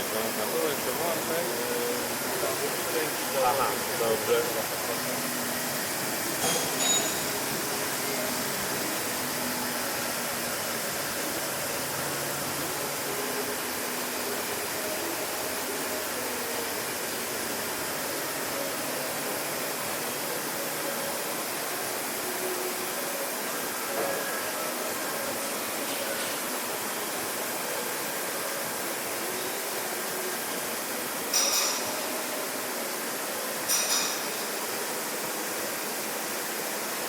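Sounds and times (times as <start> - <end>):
lathe spindle hiss and whir: 0.0 - 37.0.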